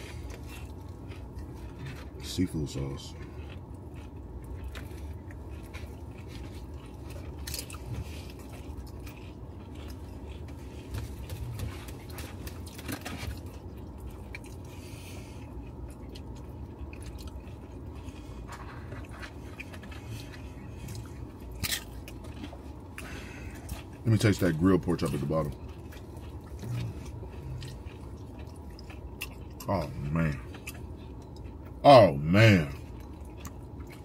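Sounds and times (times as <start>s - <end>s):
food crunching: 0.0s - 34.0s
people chewing food: 0.0s - 34.0s
steady low rumble: 0.0s - 34.0s.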